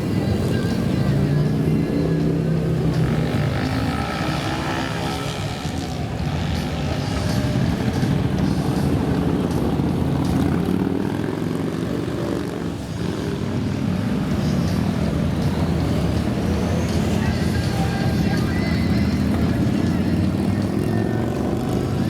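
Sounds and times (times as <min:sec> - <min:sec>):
motorcycle engines droning: 0:00.0 - 0:22.0.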